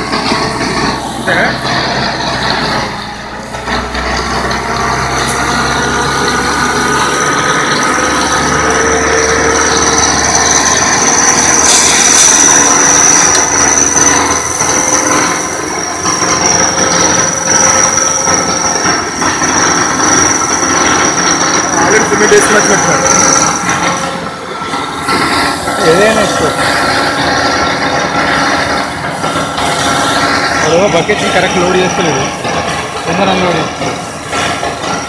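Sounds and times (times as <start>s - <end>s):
concrete mixer engine running: 0.0s - 35.0s
high-pitched hydraulic whine: 0.0s - 35.0s.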